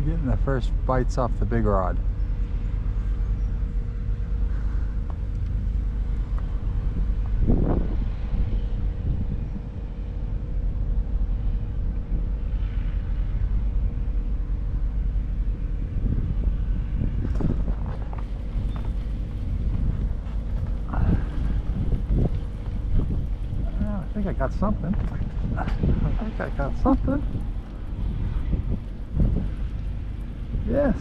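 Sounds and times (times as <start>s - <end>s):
engine rumbling: 0.0s - 31.0s
wind on microphone: 1.6s - 31.0s.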